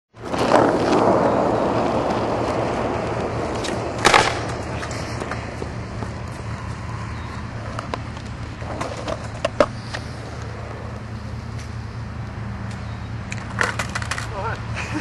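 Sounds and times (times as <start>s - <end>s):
low outdoor hum: 0.2s - 15.0s.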